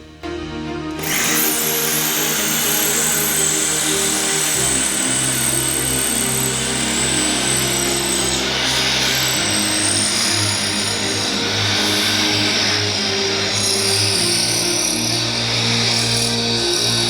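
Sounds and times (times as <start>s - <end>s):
electric drill boring into stone floor: 1.0s - 17.0s.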